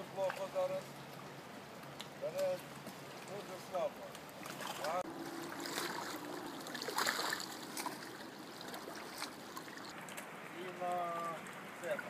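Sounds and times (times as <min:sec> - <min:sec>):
river water lapping and flowing: 0:00.0 - 0:12.0.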